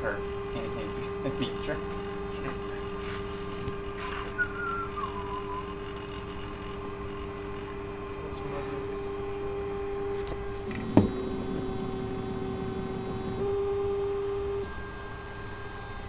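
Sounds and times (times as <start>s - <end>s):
printer motor whine: 0.0s - 16.0s.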